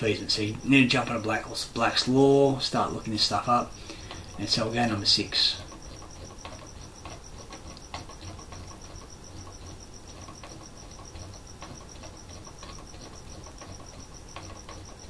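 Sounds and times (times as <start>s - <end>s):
cricket chirping: 0.0s - 15.0s
faint clicks: 0.3s - 15.0s.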